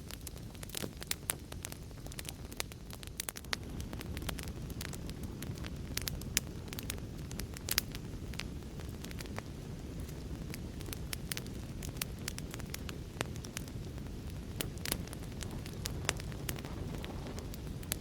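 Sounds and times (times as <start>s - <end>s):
fire crackling and popping: 0.0s - 18.0s
low rumble of burning: 0.0s - 18.0s.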